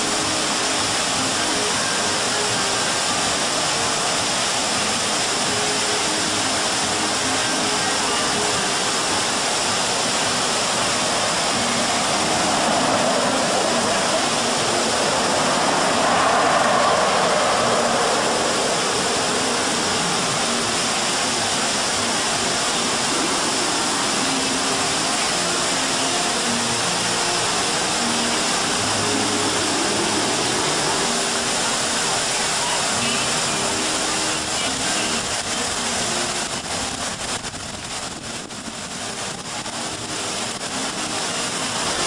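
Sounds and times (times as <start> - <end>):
fountain water splashing: 0.0 - 42.0.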